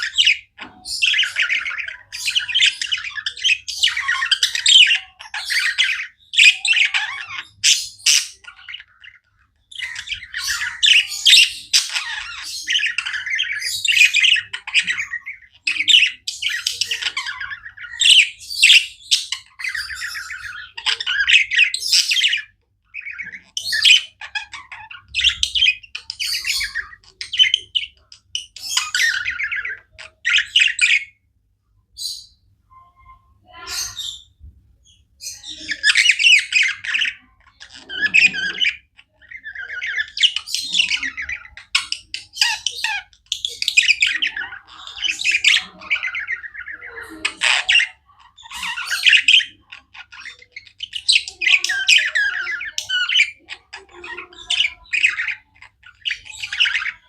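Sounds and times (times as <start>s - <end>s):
budgies chirping and chattering: 0.0s - 57.0s.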